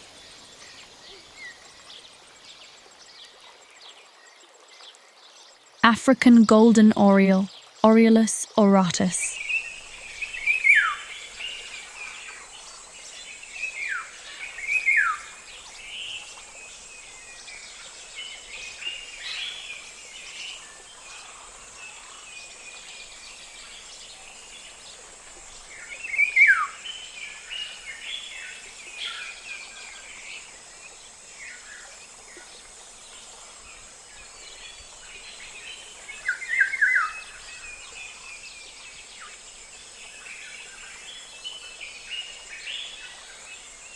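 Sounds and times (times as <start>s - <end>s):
steady high hiss: 7.9s - 43.9s.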